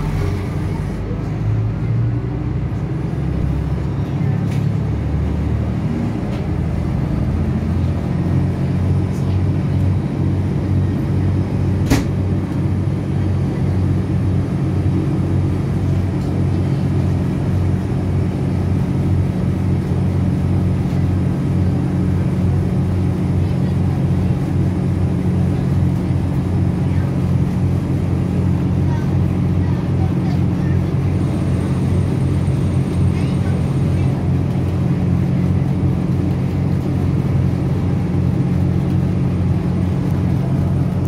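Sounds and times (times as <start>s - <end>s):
train engine low pulsing drone: 0.0s - 41.0s.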